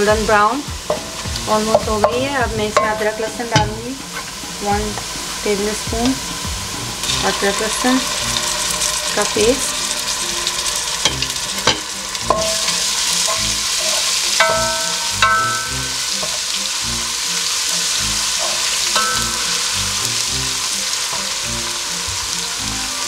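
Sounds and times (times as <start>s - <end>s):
onions sizzling in oil: 0.0s - 23.0s.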